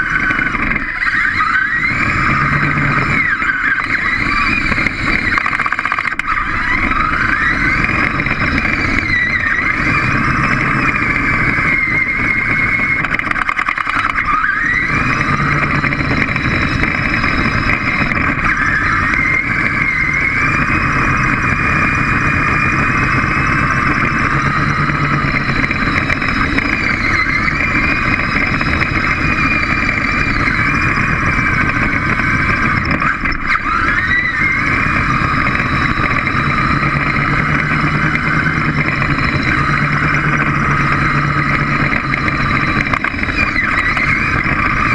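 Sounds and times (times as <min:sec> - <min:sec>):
robot drive motors whining: 0:00.0 - 0:44.9.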